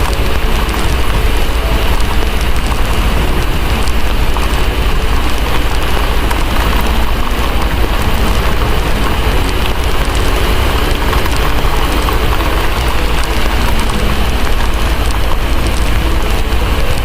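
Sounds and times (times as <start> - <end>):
deep rumble: 0.0 - 17.0
fireplace crackling: 0.0 - 17.0
heavy rain: 0.0 - 17.0.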